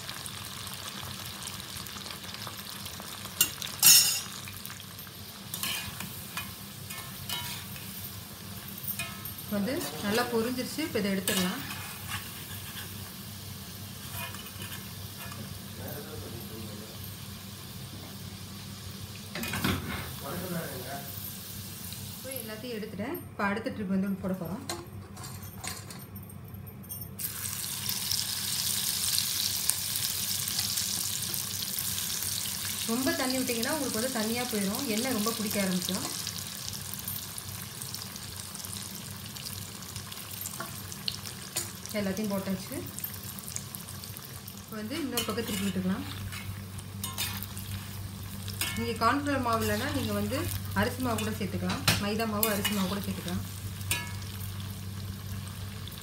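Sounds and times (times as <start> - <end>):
food sizzling in hot oil: 0.0 - 22.8, 27.2 - 56.0.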